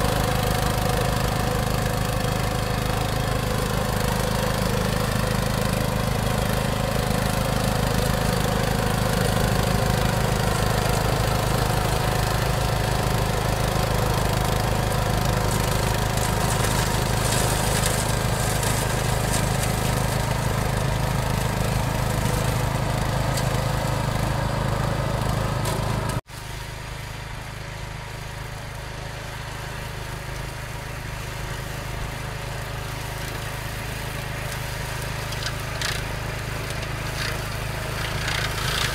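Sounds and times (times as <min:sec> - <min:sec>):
distant ride-on mower engine: 0:00.0 - 0:38.9
walk-behind tractor mowing grass: 0:00.0 - 0:38.9.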